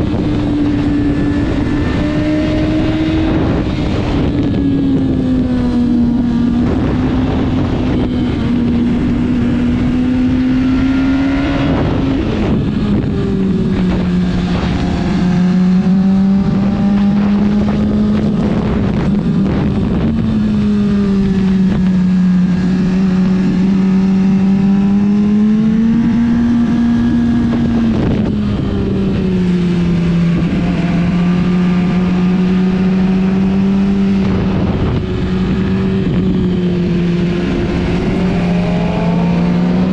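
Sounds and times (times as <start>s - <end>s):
motorcycle engine running hard: 0.0s - 39.9s
wind rush: 0.0s - 39.9s.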